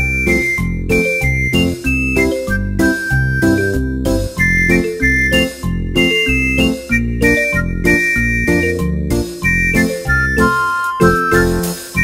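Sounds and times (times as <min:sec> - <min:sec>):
jingly music with beat: 0:00.0 - 0:12.0.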